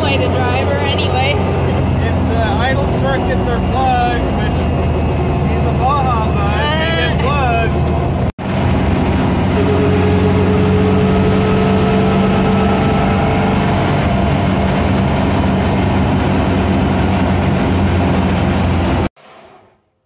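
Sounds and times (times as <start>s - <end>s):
car engine running: 0.0s - 19.1s.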